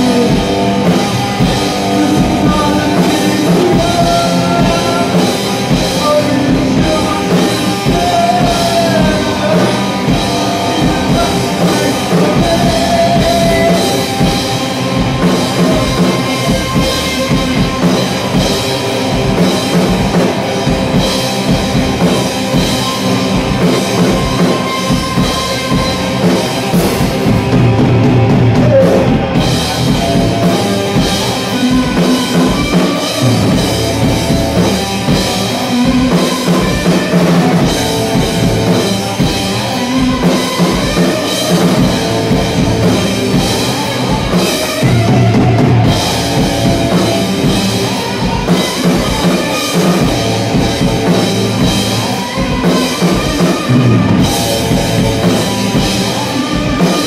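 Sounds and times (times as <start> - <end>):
distorted electric guitar riffs: 0.0 - 57.0
driving drum beat: 0.0 - 57.0.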